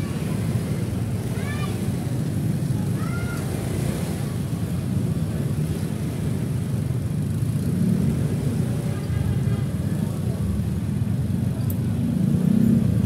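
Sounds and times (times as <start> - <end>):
motor scooter engine rumble: 0.0 - 13.0
street traffic: 0.0 - 13.0.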